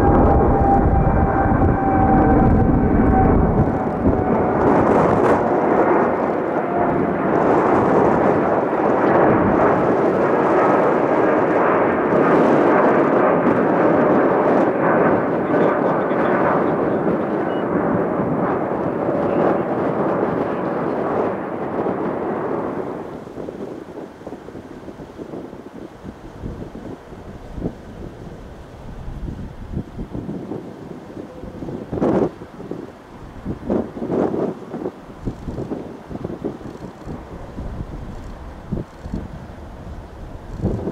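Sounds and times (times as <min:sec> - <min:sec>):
jet engines roaring at takeoff: 0:00.0 - 0:40.9.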